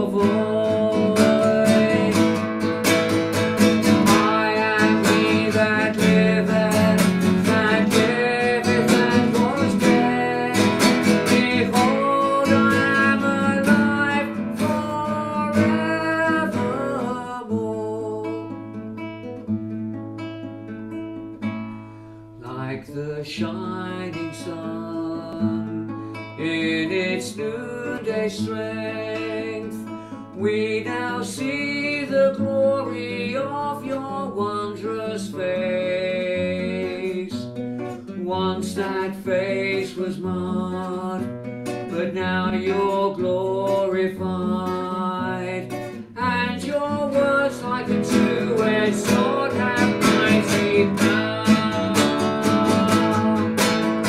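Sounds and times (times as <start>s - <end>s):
person singing: 0.0s - 18.8s, 22.4s - 54.0s
strummed acoustic guitar: 0.0s - 54.0s.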